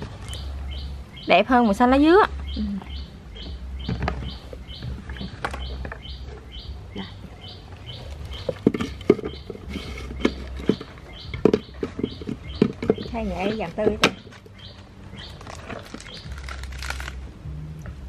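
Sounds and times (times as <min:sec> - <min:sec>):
bird chirping: 0:00.2 - 0:16.9.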